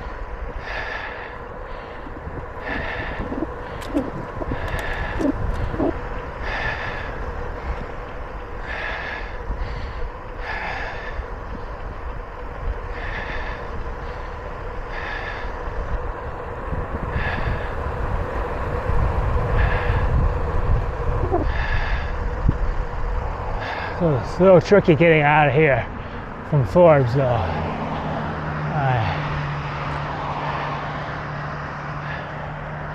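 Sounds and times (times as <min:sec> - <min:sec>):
cyclist breathing hard: 0:00.0 - 0:32.9
low wind: 0:00.0 - 0:32.9.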